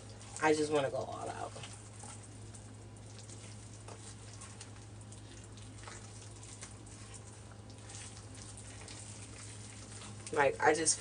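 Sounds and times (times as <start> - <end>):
steady low hum: 0.0 - 11.0
wet paste squishing: 0.0 - 11.0.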